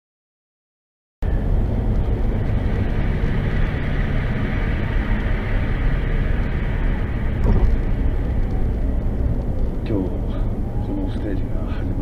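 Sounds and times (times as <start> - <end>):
vehicle engine rumble: 1.2 - 12.0.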